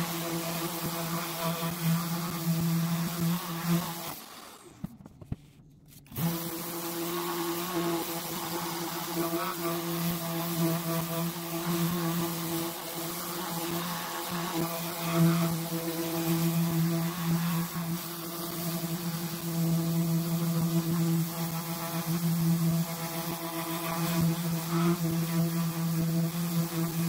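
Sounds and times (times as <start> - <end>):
orbital sander running: 0.0 - 4.9, 6.1 - 27.0.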